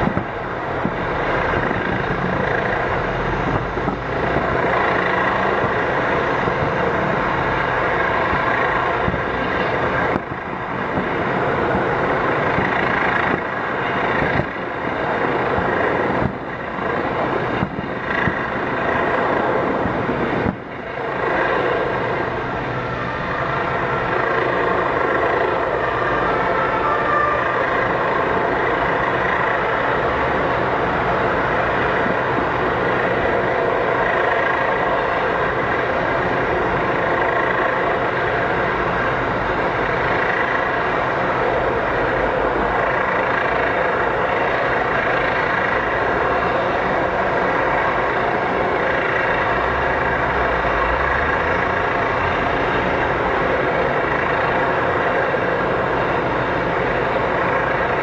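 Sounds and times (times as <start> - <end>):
distant fireworks crackling: 0.0 - 58.0.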